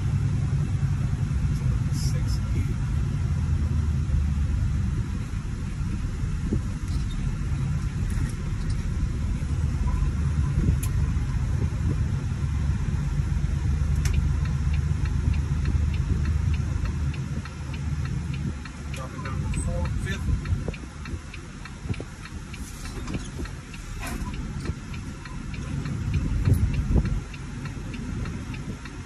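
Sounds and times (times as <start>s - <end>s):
truck diesel engine rumble: 0.0s - 29.0s
faint ticking: 5.2s - 29.0s.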